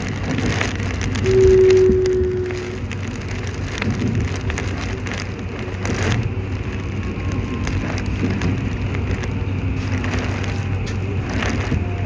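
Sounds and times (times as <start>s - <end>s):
heavy rain on train window: 0.0s - 12.0s
train running rumble: 0.0s - 12.0s.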